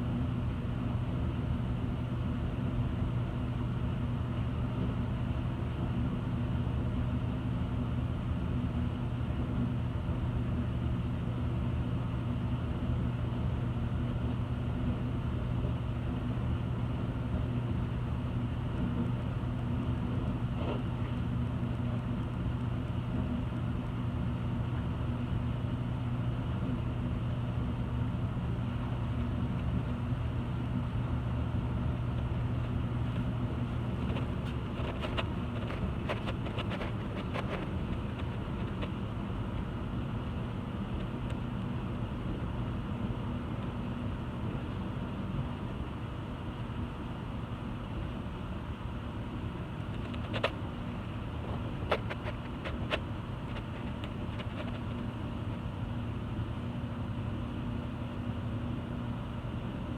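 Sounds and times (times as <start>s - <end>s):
low machine hum: 0.0s - 59.9s.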